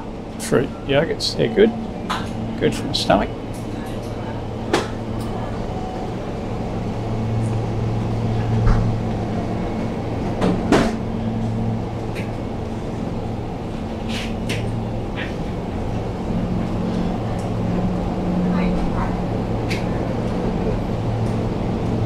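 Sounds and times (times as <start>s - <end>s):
refrigeration electrical hum: 0.0s - 22.0s.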